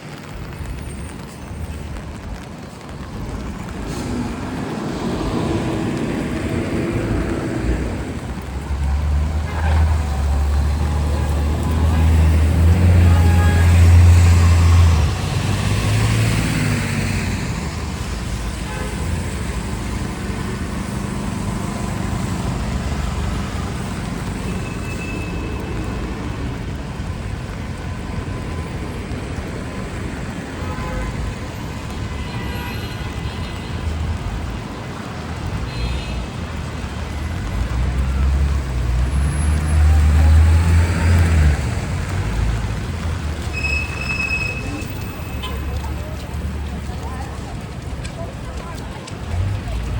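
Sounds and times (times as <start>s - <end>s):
tyres hissing on wet road: 0.0s - 49.9s
heavy vehicle engine passing: 3.3s - 30.4s, 36.8s - 49.9s.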